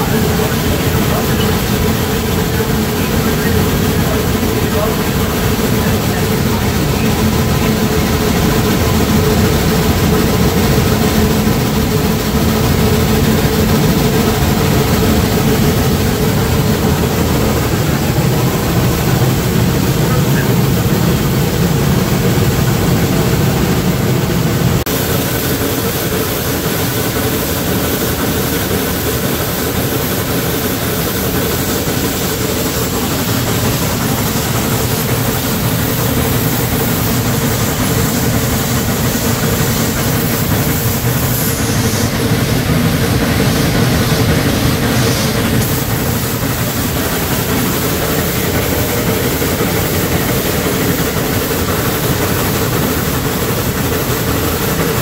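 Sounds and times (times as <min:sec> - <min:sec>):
steam locomotive rumbling: 0:00.0 - 0:55.0.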